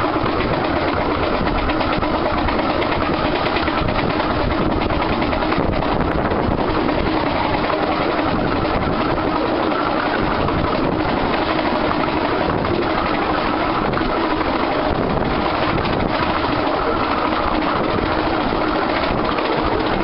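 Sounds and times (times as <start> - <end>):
steam locomotive working: 0.0 - 20.0.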